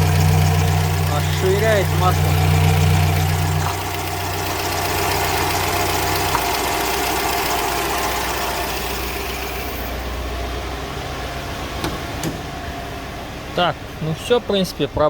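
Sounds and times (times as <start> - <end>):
petrol engine idling: 0.0 - 14.9.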